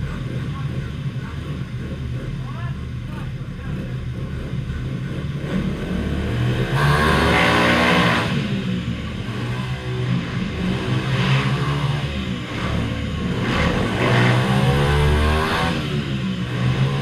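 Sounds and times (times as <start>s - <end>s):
minibike engines revving: 0.0s - 17.0s.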